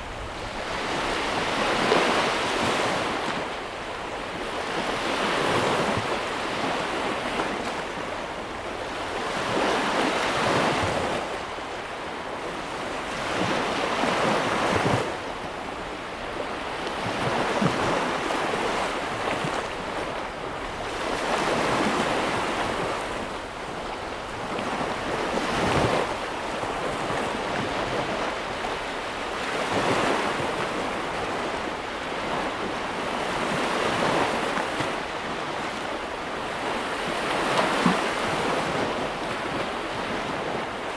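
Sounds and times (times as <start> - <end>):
ocean waves breaking on shore: 0.0 - 40.9
wind: 0.0 - 40.9.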